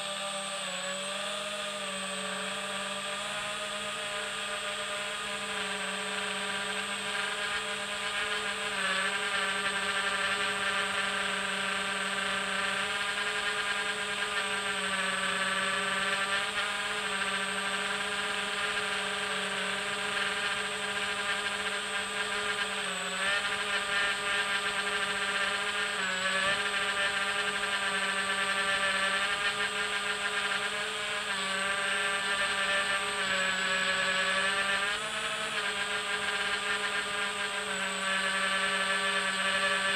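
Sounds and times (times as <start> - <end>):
model aircraft motors whining: 0.0 - 39.9.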